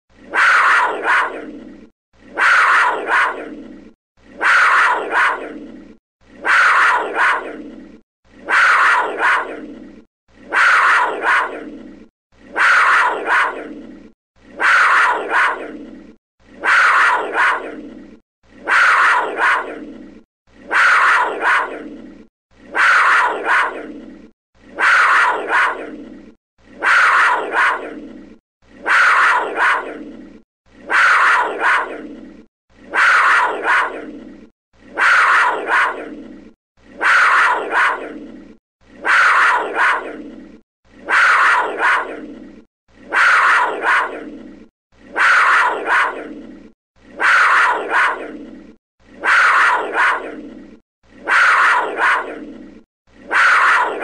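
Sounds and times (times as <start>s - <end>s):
big cat snarling: 0.1s - 54.0s.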